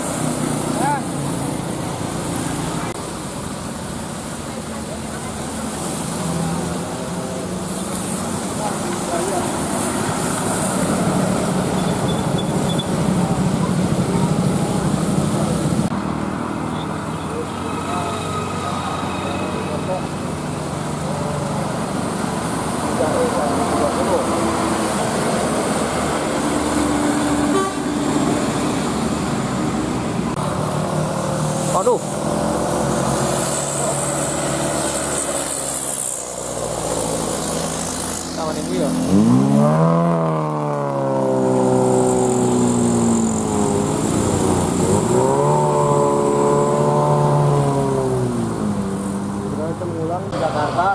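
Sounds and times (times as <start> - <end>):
bus engine rumbling: 0.0 - 50.9.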